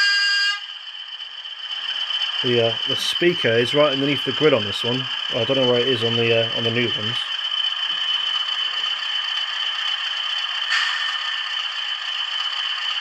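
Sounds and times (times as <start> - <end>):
clatter of motor and gears: 0.0 - 13.0
model diesel engine sound from speaker: 1.2 - 13.0.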